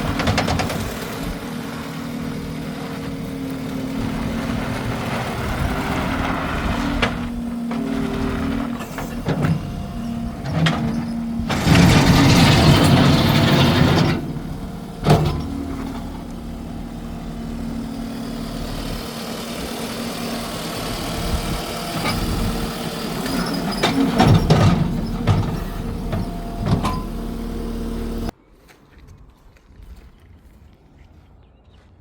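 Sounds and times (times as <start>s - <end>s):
diesel engine running: 0.0s - 28.4s.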